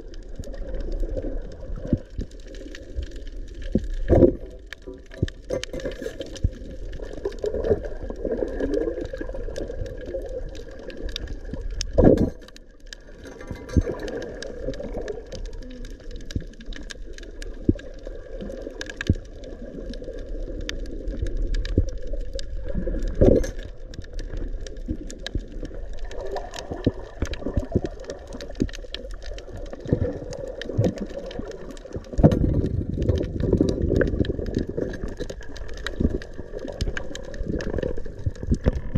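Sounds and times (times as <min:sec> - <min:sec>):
crackling clicks: 0:00.0 - 0:38.9
muffled underwater rumble: 0:00.0 - 0:38.9.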